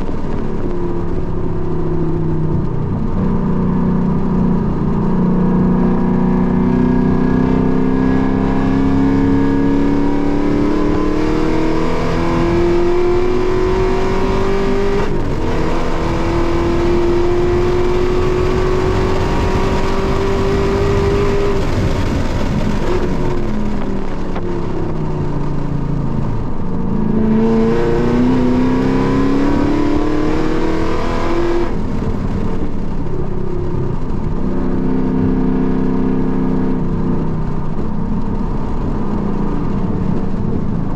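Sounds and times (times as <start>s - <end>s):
car engine at full throttle: 0.0s - 40.9s.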